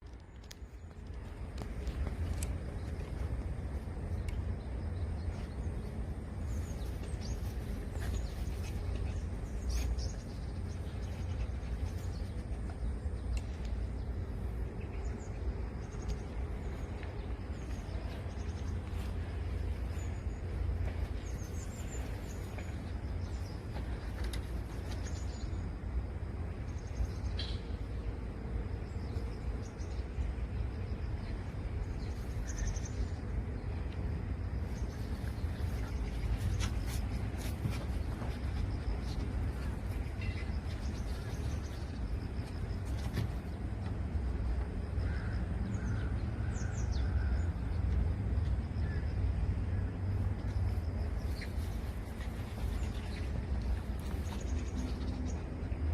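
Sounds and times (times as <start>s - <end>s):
steady low rumble: 0.0s - 55.9s.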